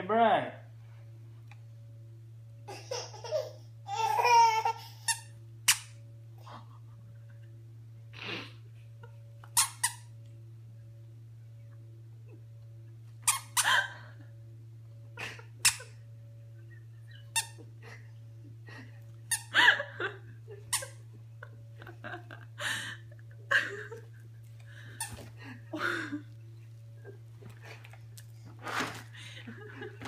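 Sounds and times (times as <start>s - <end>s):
low hum: 0.4s - 30.0s.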